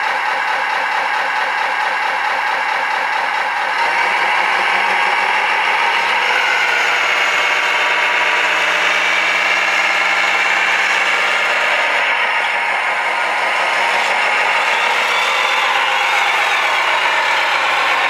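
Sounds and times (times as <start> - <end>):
toy truck motor drone: 0.0 - 18.0
low hum: 1.9 - 18.0.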